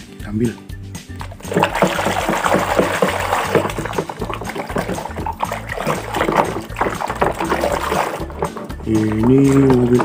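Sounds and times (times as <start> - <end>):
soapy water sloshing and splashing: 1.2 - 10.0.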